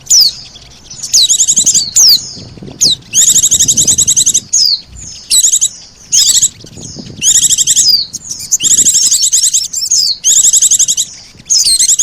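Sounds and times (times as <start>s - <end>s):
falling bird whistles: 0.0s - 12.0s
high-pitched chattering bird trills: 0.0s - 12.0s.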